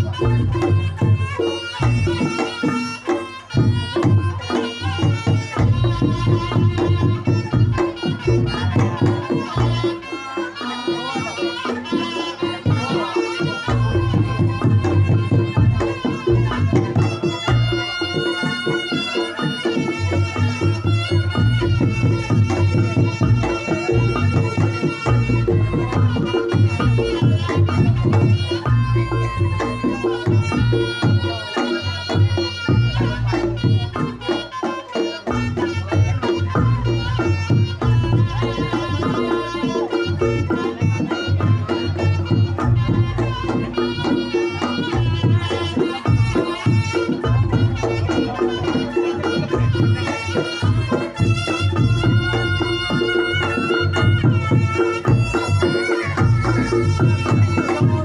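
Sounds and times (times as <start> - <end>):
double-reed trumpet melody: 0.0 - 58.0
drum strokes: 0.0 - 58.0
percussion: 0.0 - 58.0.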